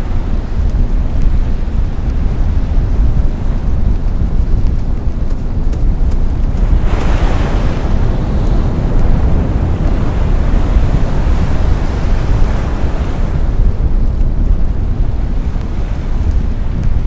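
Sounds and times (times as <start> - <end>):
ocean surf washing onto shore: 0.0 - 17.0
wind buffeting microphone: 0.0 - 17.0.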